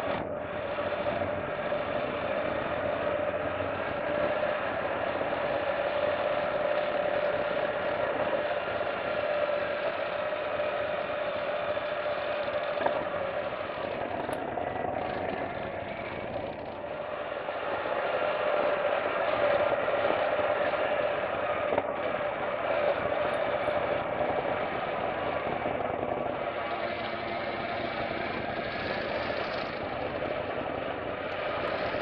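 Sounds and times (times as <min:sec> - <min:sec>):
motorcycle engine drone: 0:00.0 - 0:32.0
road noise: 0:00.0 - 0:32.0.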